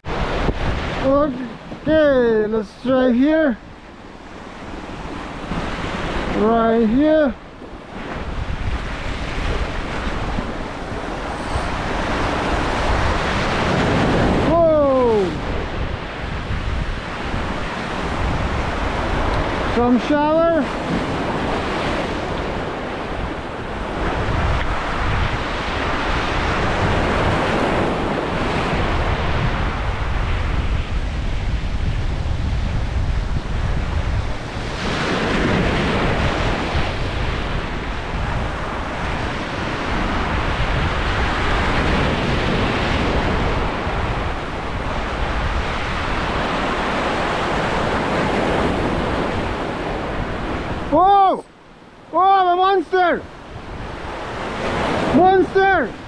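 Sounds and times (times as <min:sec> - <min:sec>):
wind buffeting microphone: 0:00.0 - 0:52.1, 0:53.2 - 0:56.0
ocean surf breaking: 0:00.0 - 0:56.0.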